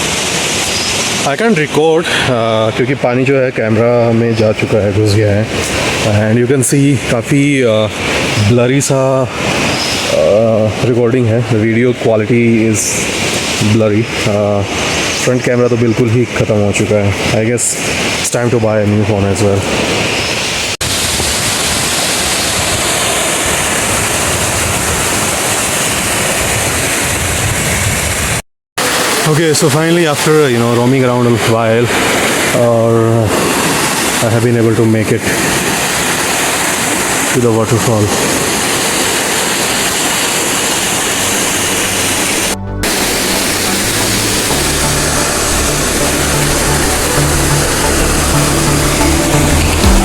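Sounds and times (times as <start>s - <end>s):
waterfall roaring: 0.0s - 50.0s.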